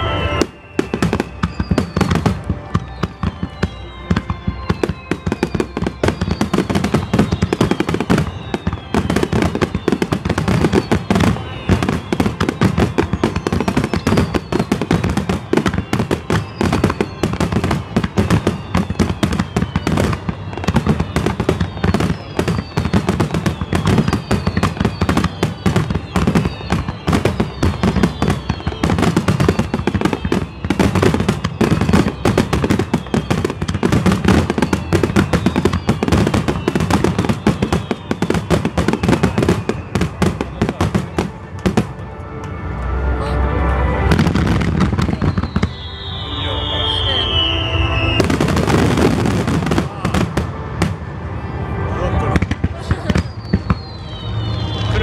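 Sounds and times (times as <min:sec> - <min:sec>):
fireworks bursting and crackling: 0:00.0 - 0:42.8, 0:44.0 - 0:55.0.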